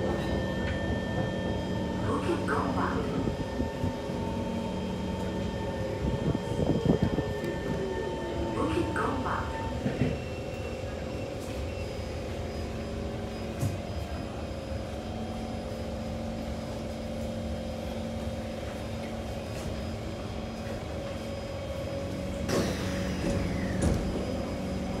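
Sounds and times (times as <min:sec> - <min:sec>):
metro train rumble: 0:00.0 - 0:25.0.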